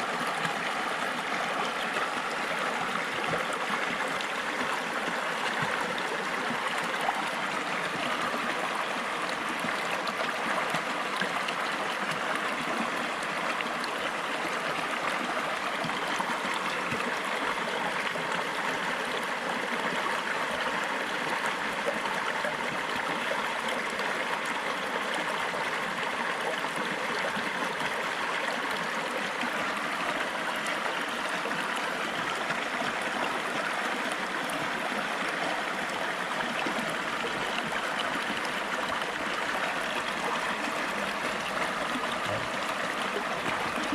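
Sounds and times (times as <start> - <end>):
river flowing over rocks: 0.0 - 43.9.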